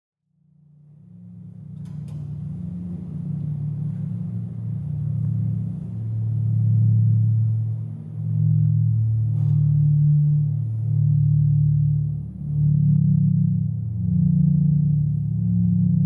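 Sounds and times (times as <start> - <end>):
low droning ambient music: 0.3 - 16.0.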